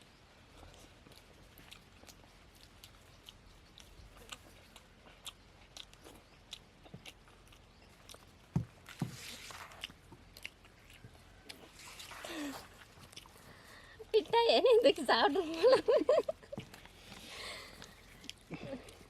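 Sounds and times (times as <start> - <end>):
person chewing and biting food: 0.5 - 13.9, 16.6 - 19.0.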